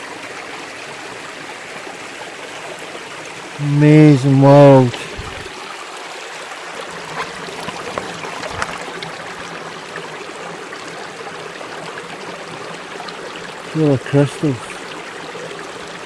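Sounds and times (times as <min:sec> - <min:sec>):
river flowing over rocks: 0:00.1 - 0:16.0.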